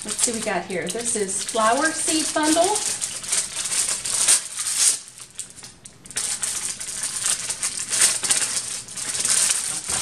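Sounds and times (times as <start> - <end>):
seeds rattling in packets: 0.0 - 10.0
paper envelope rustling: 1.5 - 10.0.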